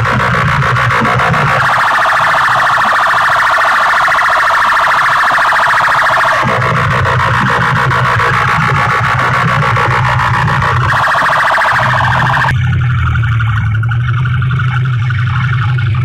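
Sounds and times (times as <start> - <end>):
rapidly pulsing high alarm tone: 0.0 - 16.0.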